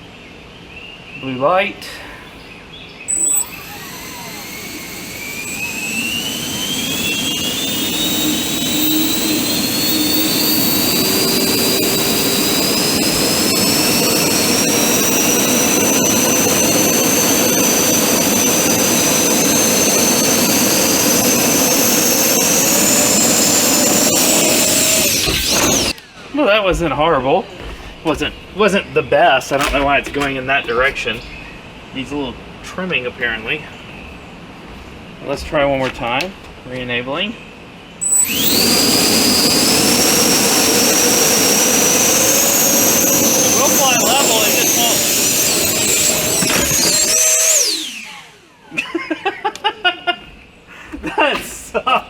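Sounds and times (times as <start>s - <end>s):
electric fans whining: 3.0s - 36.6s, 37.5s - 52.0s.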